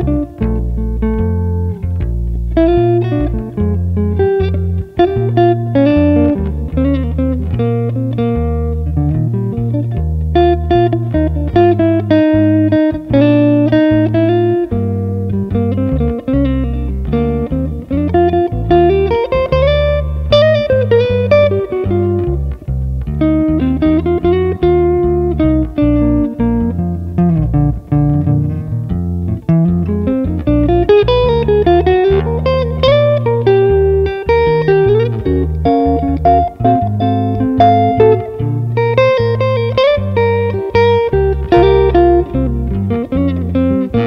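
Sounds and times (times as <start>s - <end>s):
electric bass guitar: 0.0s - 44.0s
guitar solo: 0.0s - 44.0s.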